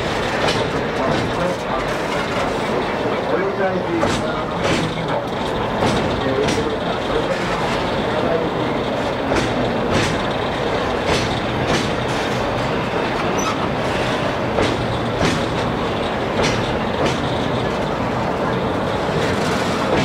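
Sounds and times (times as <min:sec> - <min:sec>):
locomotive engine drone: 0:00.0 - 0:20.0.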